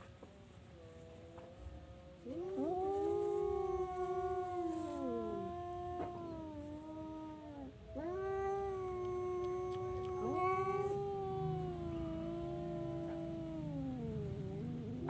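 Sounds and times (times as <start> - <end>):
cat yowling: 0.9 - 15.0.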